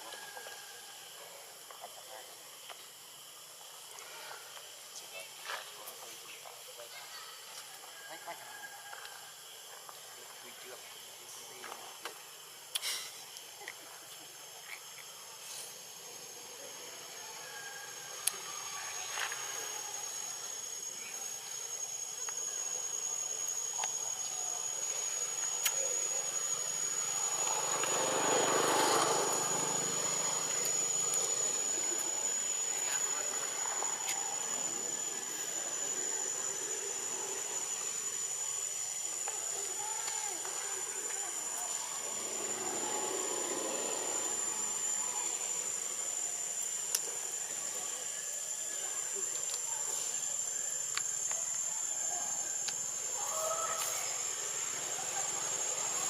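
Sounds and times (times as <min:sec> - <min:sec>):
high thin insect drone: 0:00.0 - 0:56.0.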